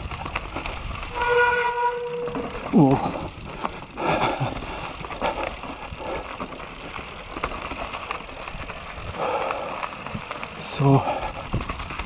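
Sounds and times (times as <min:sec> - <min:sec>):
bike rattling over bumps: 0:00.0 - 0:12.0
bike tyres rolling on dirt: 0:00.0 - 0:12.0.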